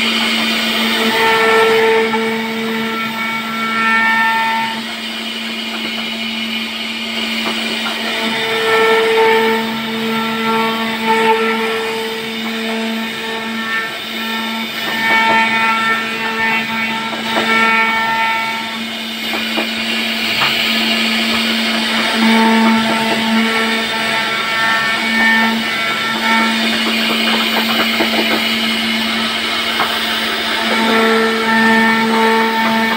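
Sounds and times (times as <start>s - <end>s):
router bit cutting wood chips: 0.0s - 32.9s
router spindle whining: 0.0s - 32.9s.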